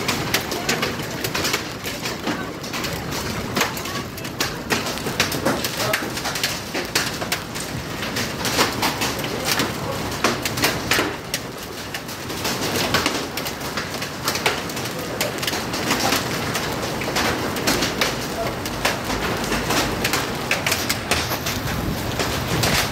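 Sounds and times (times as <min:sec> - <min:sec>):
rain on tiled floor: 0:00.0 - 0:22.9.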